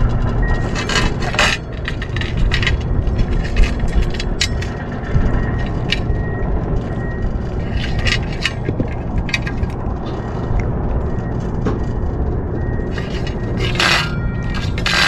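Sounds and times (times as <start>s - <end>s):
small clicks and scrapes: 0.0s - 15.0s
wind buffeting microphone: 0.0s - 15.0s.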